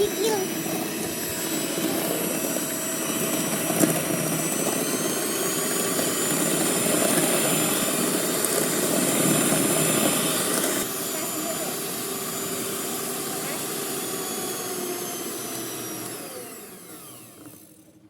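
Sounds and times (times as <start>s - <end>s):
small motor whirring: 0.0s - 18.0s.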